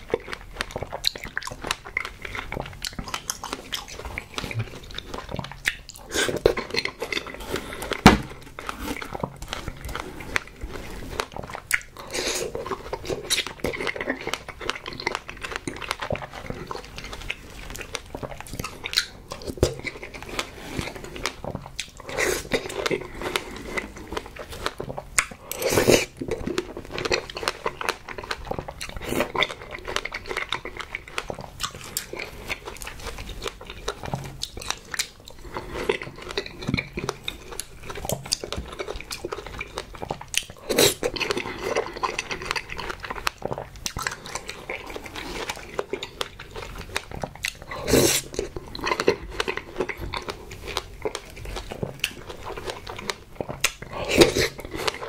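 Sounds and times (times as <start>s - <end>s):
mouth chewing and smacking: 0.0s - 55.0s.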